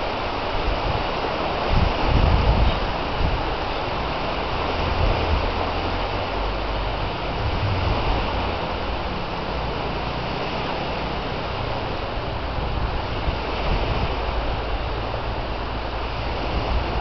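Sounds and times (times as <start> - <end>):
small waves breaking: 0.0 - 17.0
wind buffeting microphone: 0.0 - 17.0.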